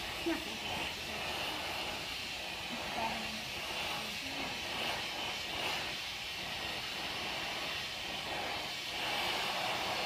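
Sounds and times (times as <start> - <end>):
torch flame hissing: 0.0 - 10.0.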